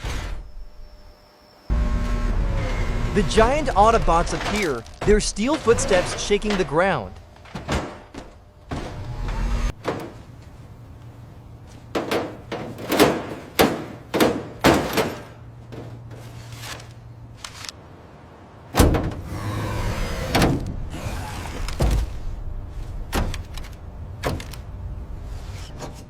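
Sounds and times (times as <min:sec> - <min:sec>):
rumbling mechanical noise: 0:00.0 - 0:26.0.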